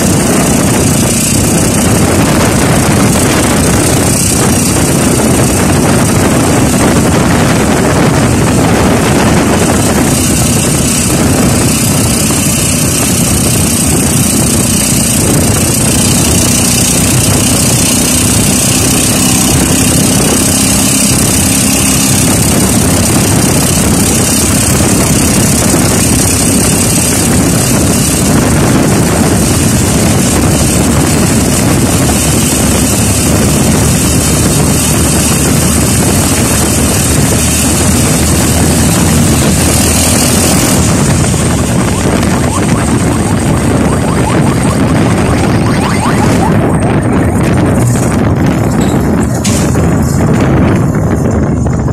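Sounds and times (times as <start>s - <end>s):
constant rushing noise: 0.0s - 51.9s
motorcycle engine running: 0.0s - 51.9s.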